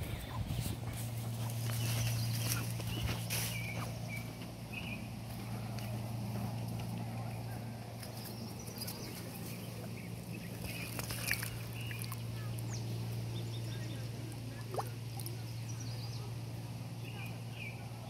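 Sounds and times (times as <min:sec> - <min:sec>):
birds chirping: 0:00.0 - 0:18.0
steady low hum: 0:00.0 - 0:18.0.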